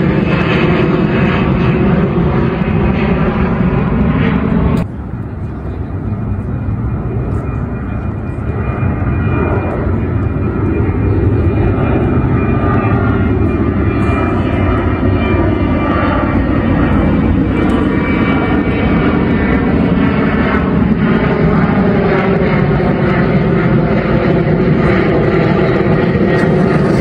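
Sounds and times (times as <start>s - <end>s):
jet engines rumbling with whine: 0.0s - 27.0s.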